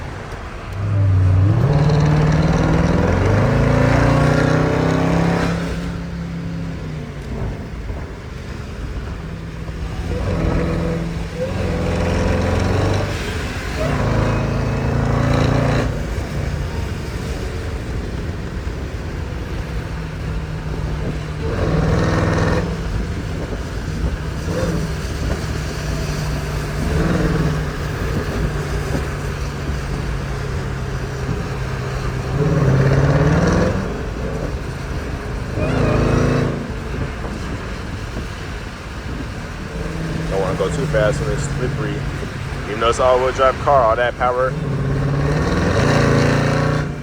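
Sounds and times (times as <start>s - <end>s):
car engine revving: 0.0s - 47.0s
tyre noise on wet road: 0.0s - 47.0s.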